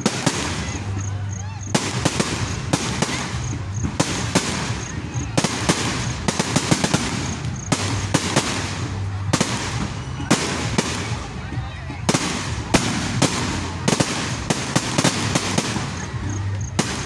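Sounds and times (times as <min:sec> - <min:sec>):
firework shells bursting: 0:00.0 - 0:11.2, 0:12.0 - 0:17.0
fireworks crackling: 0:00.0 - 0:17.0.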